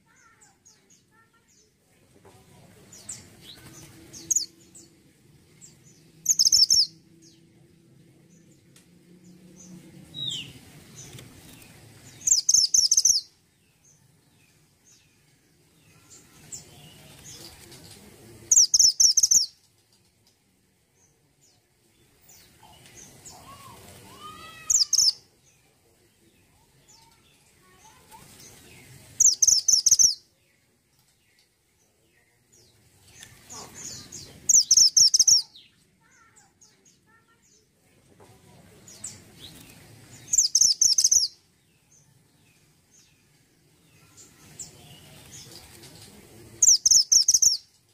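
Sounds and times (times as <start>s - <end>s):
songbird chirping: 0.0s - 47.9s.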